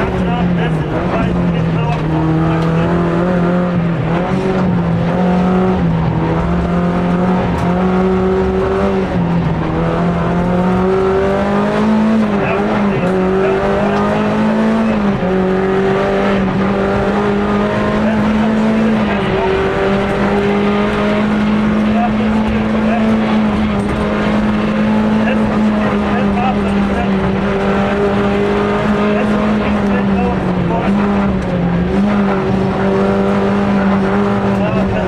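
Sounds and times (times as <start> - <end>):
rally car engine revving: 0.0 - 35.0.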